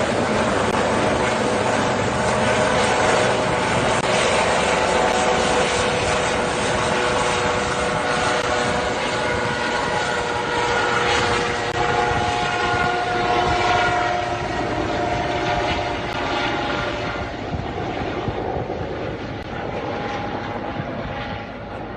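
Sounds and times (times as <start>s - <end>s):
helicopter engine and rotor: 0.0s - 21.9s.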